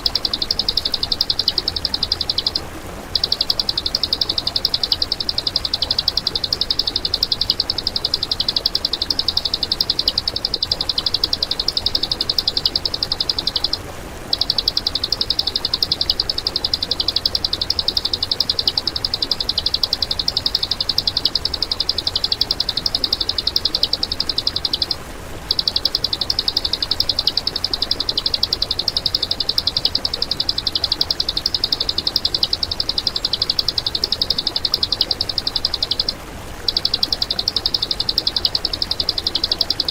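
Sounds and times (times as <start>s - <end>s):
songbird rattling trill: 0.0s - 39.9s.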